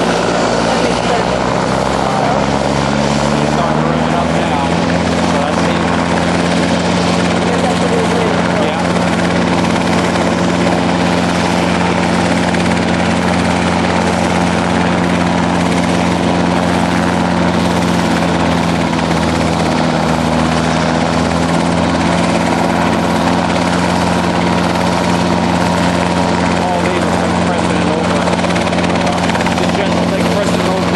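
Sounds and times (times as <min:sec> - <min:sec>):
helicopter engine and rotor drone: 0:00.0 - 0:30.9.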